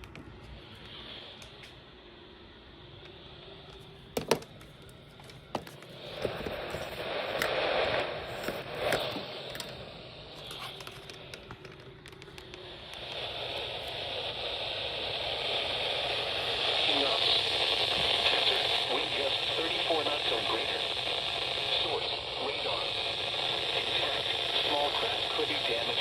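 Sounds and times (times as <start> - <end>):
radio static hiss and crackle: 4.8 - 26.0.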